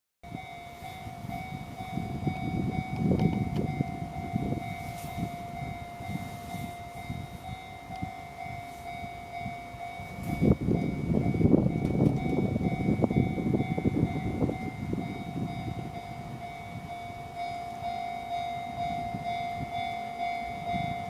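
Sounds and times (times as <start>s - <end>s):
train rumbling on track: 0.2s - 21.0s
steady whining tone: 0.3s - 21.0s.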